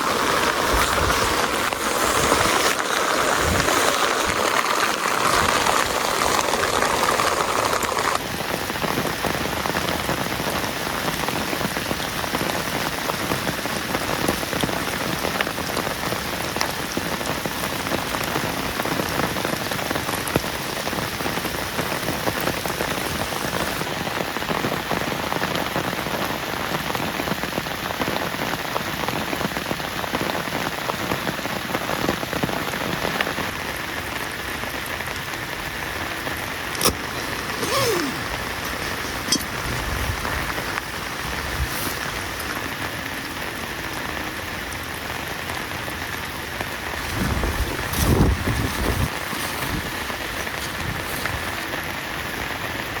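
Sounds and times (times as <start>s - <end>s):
heavy rain patter: 0.0s - 53.0s.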